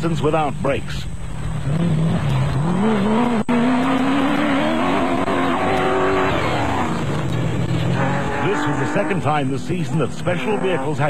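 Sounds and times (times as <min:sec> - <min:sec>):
buggy engine at full throttle: 0:00.0 - 0:11.0.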